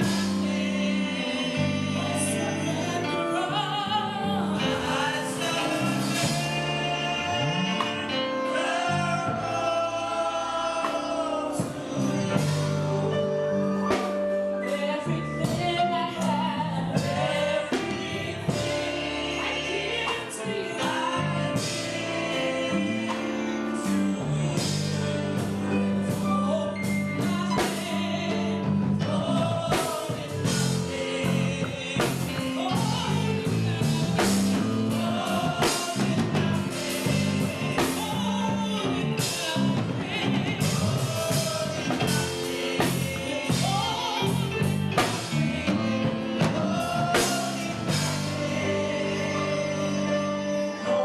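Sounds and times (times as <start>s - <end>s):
bass line: 0.0s - 51.0s
gospel band with singing: 0.0s - 51.0s.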